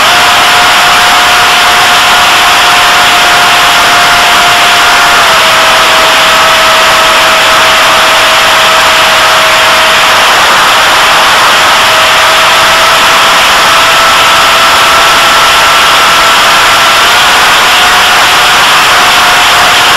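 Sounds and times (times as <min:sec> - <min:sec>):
high-pitched propeller motor hum: 0:00.0 - 0:19.9.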